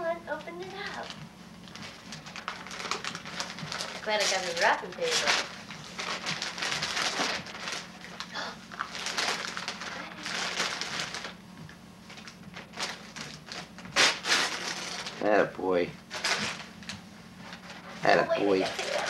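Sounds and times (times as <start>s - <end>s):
wrapping paper tearing and crumpling: 0.8s - 11.4s, 12.1s - 15.4s, 16.1s - 19.0s.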